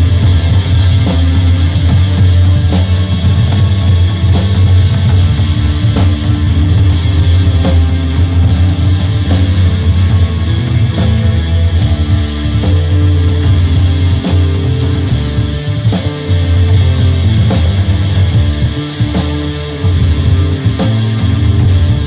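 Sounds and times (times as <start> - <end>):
drum kit beat: 0.0 - 22.0
heavy rock instrumental: 0.0 - 22.0
low bass notes: 0.0 - 22.0.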